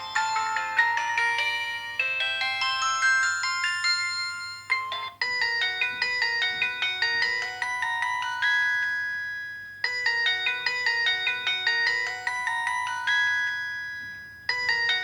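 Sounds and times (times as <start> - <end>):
polyphonic phone ringtone: 0.0 - 15.0.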